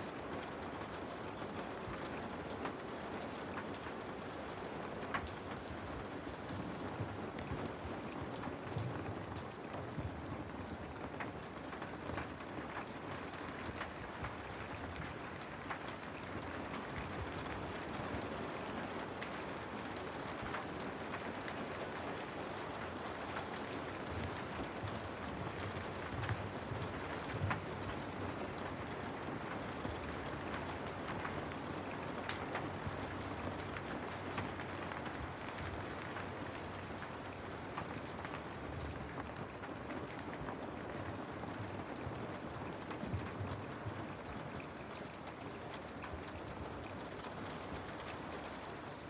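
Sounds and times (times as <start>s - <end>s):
raindrops ticking on window: 0.0s - 49.0s
steady rain: 0.0s - 49.0s.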